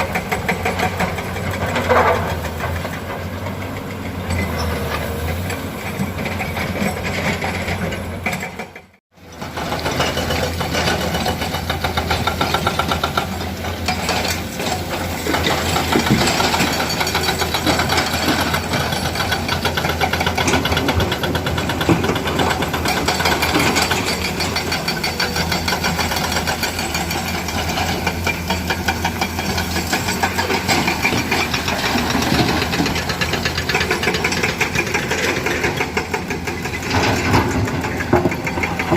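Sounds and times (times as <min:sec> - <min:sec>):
excavator diesel engine under load: 0:00.0 - 0:38.9.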